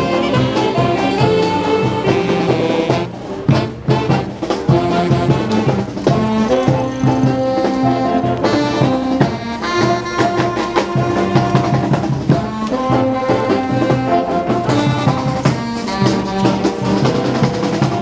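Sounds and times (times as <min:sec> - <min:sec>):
accordions: 0:00.0 - 0:18.0
saxophones: 0:00.0 - 0:18.0
steady drum beat: 0:00.0 - 0:18.0.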